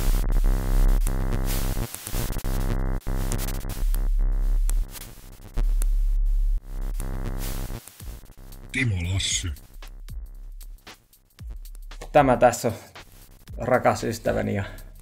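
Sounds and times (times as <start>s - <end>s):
electronic music with deep bass: 0.0s - 15.0s.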